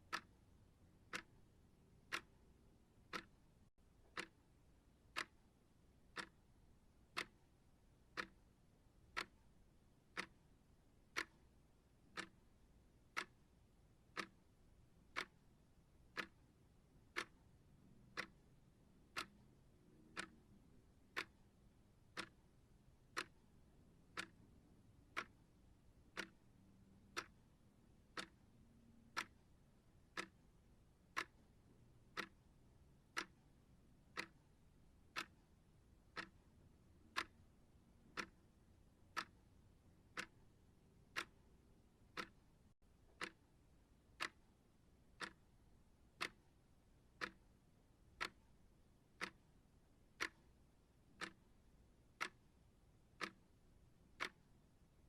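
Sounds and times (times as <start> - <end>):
timer ticking: 0.0 - 54.9.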